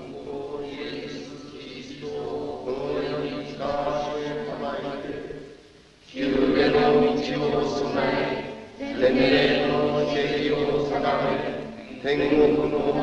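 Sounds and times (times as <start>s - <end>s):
crowd chanting a prayer: 0.0s - 5.4s, 6.1s - 13.0s.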